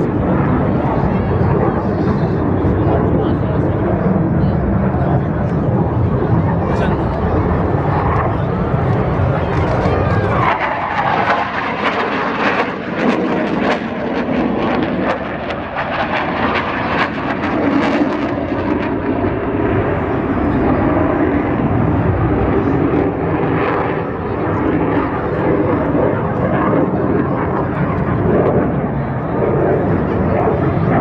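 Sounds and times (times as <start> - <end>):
jet engines flying past: 0.0 - 31.0.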